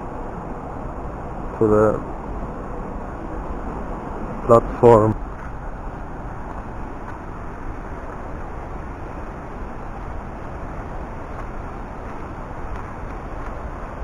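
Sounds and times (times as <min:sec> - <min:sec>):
waterfall rushing roar: 0:00.0 - 0:14.0.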